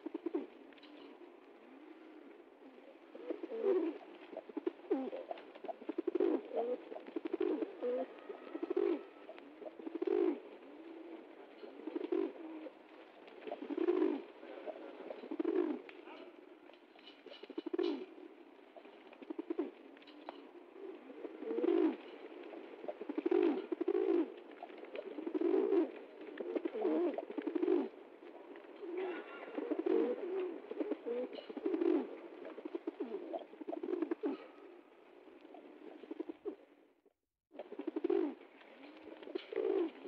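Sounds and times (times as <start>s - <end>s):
pigeons cooing: 0.0s - 36.8s, 37.6s - 40.0s.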